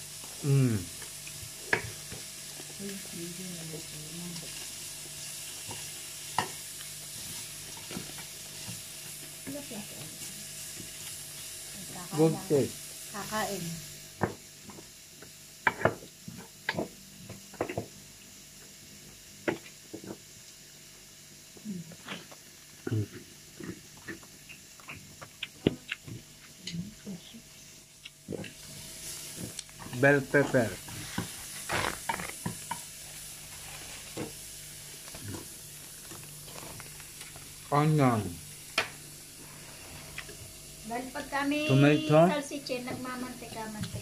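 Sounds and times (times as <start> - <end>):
food sizzling in oil: 0.0 - 21.6, 27.6 - 44.0.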